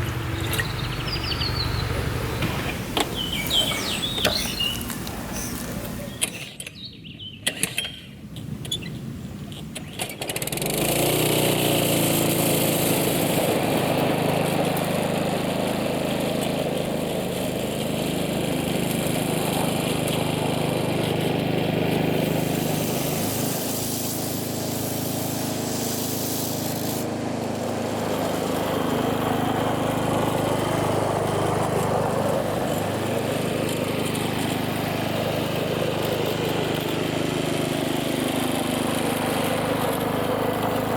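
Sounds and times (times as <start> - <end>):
petrol lawnmower engine: 0.0 - 40.9.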